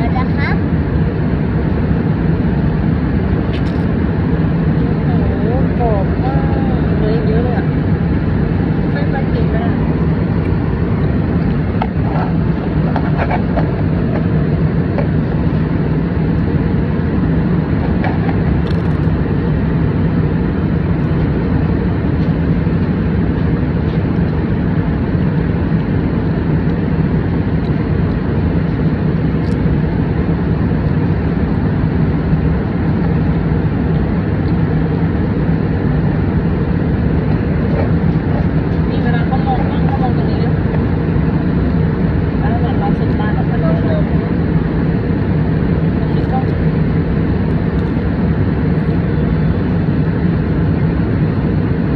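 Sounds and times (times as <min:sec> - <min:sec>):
airliner cabin engine roar: 0:00.0 - 0:51.9
low steady hum: 0:00.0 - 0:51.9.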